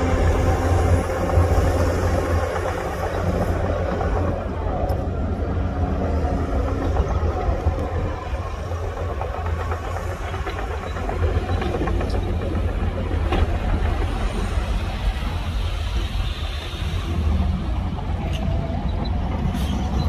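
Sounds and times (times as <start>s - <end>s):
heavy diesel engine rumbling: 0.0s - 20.0s.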